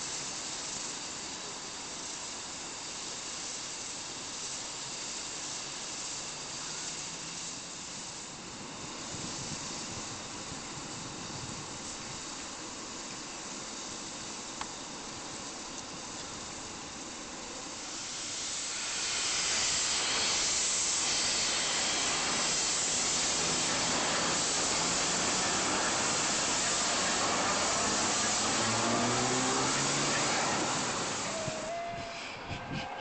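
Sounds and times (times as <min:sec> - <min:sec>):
steam hissing: 0:00.0 - 0:33.0.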